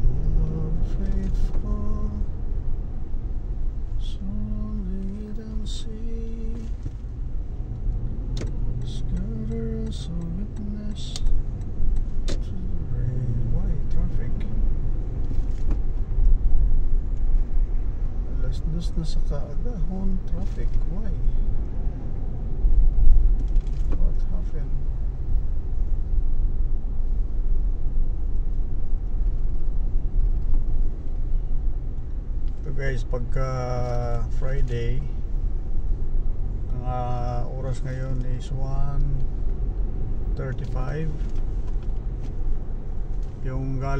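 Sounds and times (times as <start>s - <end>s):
car engine and tyres rumbling: 0.0s - 43.9s.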